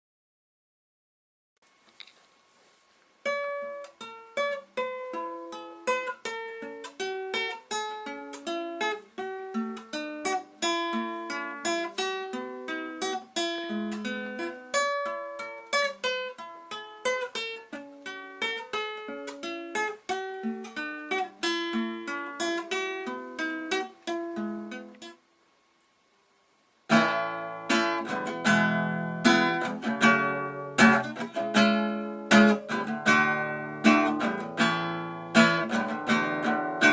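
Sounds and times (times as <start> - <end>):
acoustic guitar fingerpicking: 3.2 - 25.2, 26.9 - 36.9.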